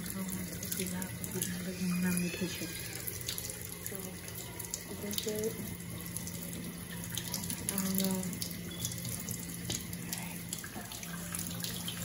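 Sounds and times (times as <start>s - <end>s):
low steady hum: 0.0s - 12.0s
tap water running into sink: 0.0s - 12.0s.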